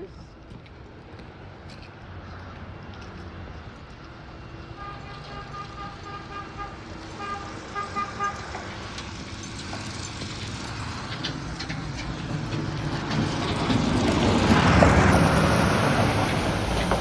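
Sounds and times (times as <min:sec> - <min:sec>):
vehicle passing on street: 0:00.8 - 0:17.0.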